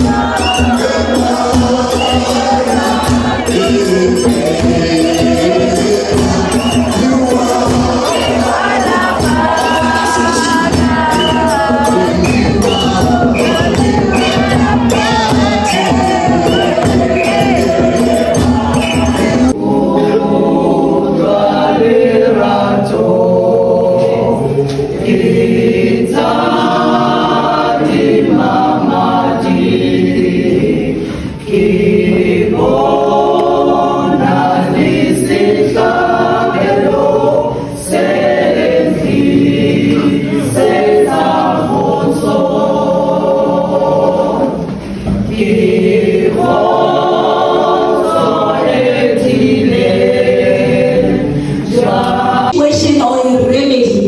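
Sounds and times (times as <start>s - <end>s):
choir singing a hymn unaccompanied: 0.0s - 52.8s.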